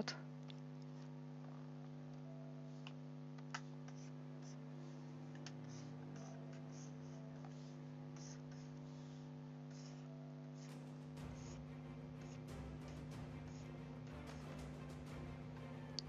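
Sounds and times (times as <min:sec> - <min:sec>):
quiet music of held tones: 0:00.0 - 0:16.0.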